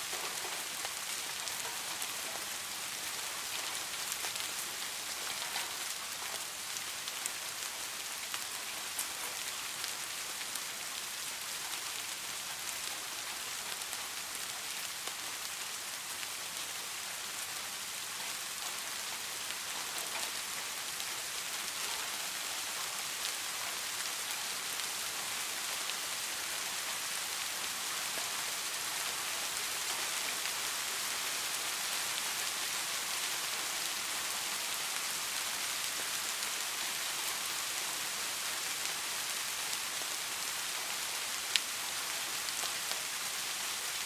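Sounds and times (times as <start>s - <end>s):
rain pattering on a surface: 0.0s - 44.0s.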